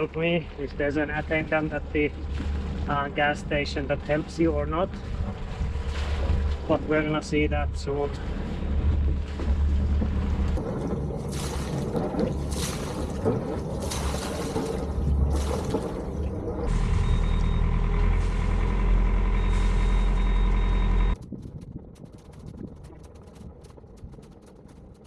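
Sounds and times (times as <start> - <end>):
wind gusting on microphone: 0.0 - 17.0, 21.2 - 25.0
boat engine running: 0.0 - 25.0.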